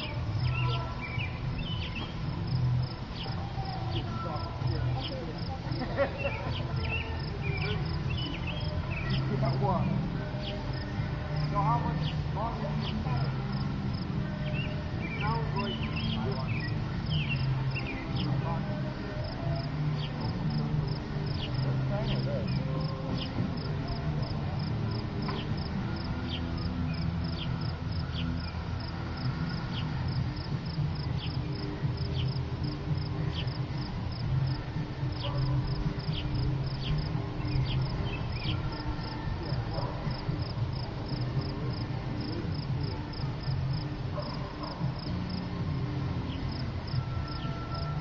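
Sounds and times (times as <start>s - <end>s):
crickets chirping: 0.0s - 48.0s.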